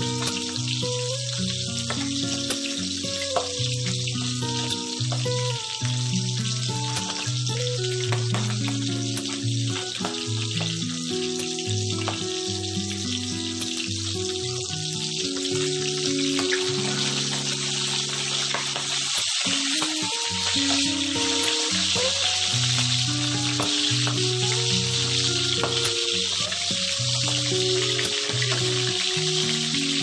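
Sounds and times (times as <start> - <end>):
background music low notes: 0.0 - 30.0
fish sizzling in hot oil: 0.0 - 30.0.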